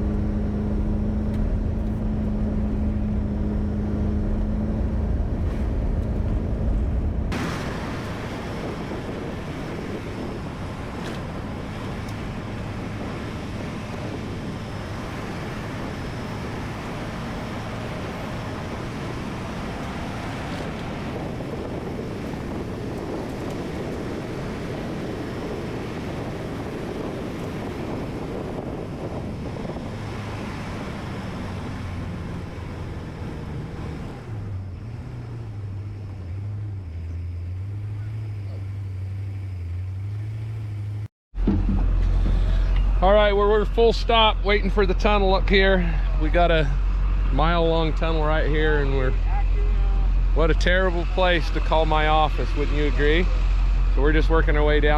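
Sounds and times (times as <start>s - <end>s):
road and wind noise: 0.0s - 54.9s
truck engine hum: 0.0s - 54.9s.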